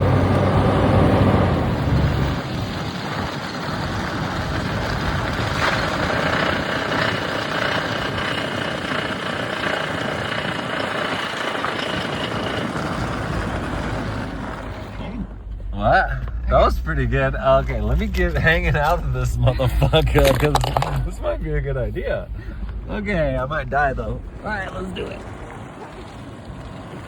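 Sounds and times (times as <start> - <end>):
car engine hum: 0.0 - 27.0
engine and road noise: 0.0 - 27.0.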